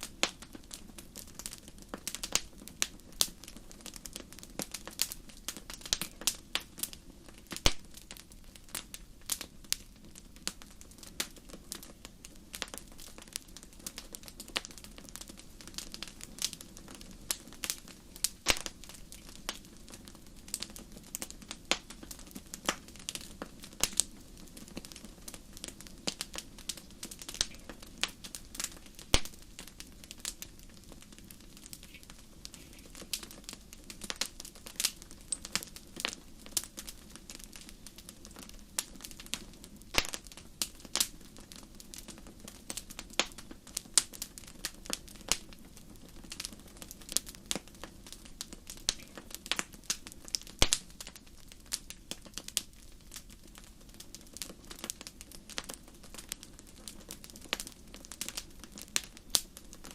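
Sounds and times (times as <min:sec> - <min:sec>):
low rumble of flames: 0:00.0 - 0:59.9
wood fire popping and snapping: 0:00.0 - 0:59.9.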